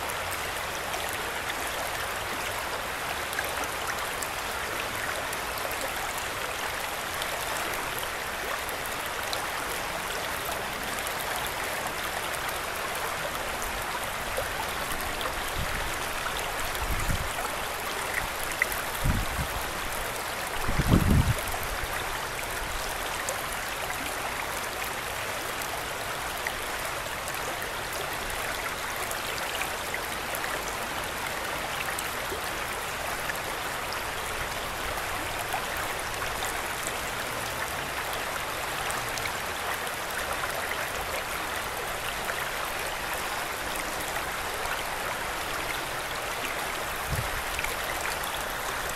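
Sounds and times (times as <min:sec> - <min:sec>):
water babbling over rocks: 0:00.0 - 0:48.9.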